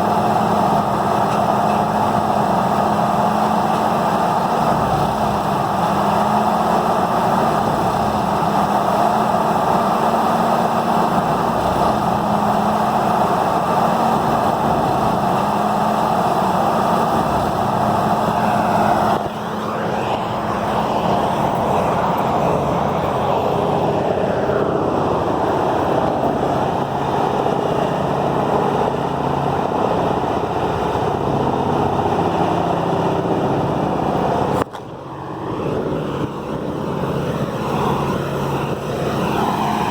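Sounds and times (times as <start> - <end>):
diesel engine under grinding load: 0.0 - 39.9.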